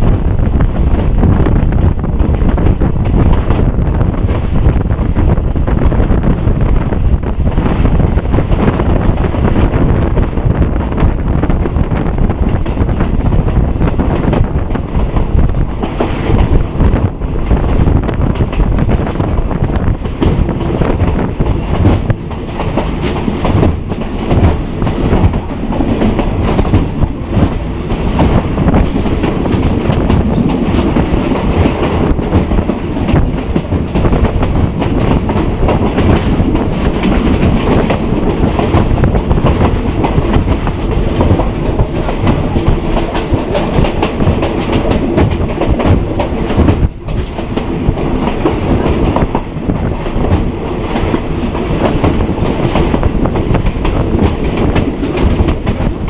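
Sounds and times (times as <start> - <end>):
clickety-clack over rail joints: 0.0 - 56.0
train wheels rumbling on track: 0.0 - 56.0.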